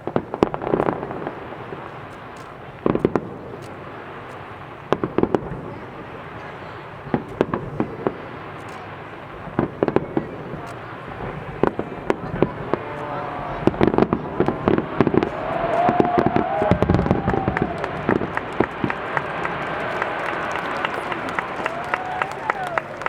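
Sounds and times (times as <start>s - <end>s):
crackling rumble: 0.0s - 23.0s
firework bangs: 0.0s - 23.0s.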